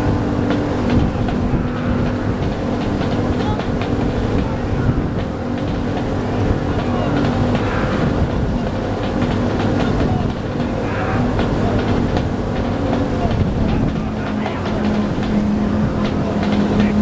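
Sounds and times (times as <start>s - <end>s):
motorboat engine running: 0.0s - 17.0s
oars splashing water: 0.0s - 17.0s.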